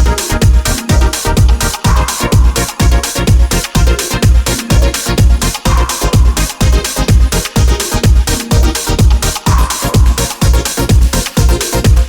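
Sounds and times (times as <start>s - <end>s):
electronic dance music: 0.0s - 12.0s
heavy kick drum: 0.0s - 12.0s.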